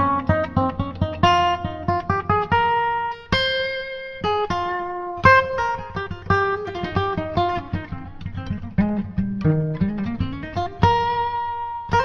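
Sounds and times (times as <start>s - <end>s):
plucked instrumental music: 0.0s - 12.0s.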